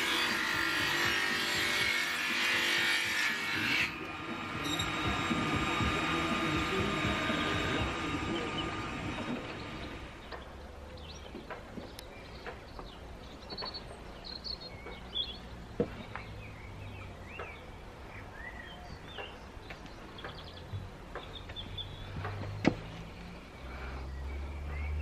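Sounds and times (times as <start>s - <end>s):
birds chirping and warbling: 0.0s - 25.0s.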